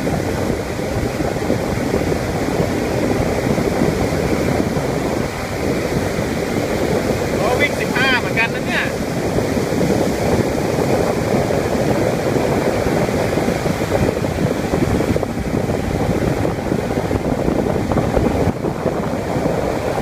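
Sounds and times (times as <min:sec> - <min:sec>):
outboard motor running: 0:00.0 - 0:20.0
water rushing past hull: 0:00.0 - 0:20.0
wind buffeting microphone: 0:00.0 - 0:20.0.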